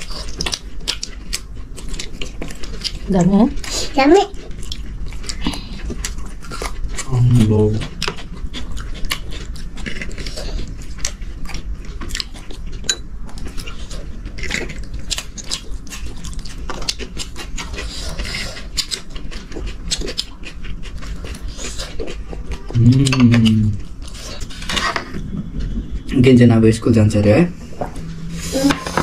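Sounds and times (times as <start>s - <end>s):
chewing and biting food: 0.0s - 26.1s
steady low hum: 0.0s - 29.0s.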